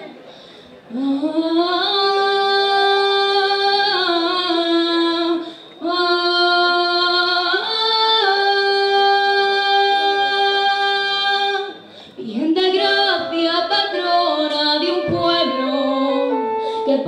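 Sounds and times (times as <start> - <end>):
woman singing devotional song: 0.9 - 17.0.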